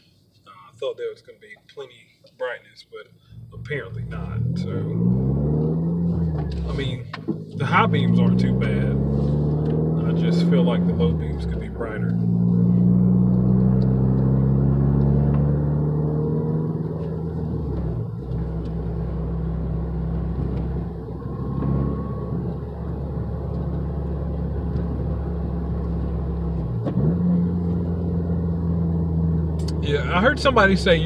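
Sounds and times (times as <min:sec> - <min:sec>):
car engine from inside cabin: 0:03.3 - 0:31.0.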